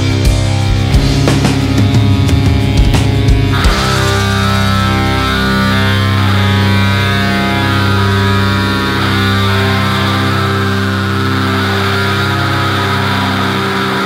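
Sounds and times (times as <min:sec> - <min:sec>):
distorted electric guitars droning: 0:00.0 - 0:14.0.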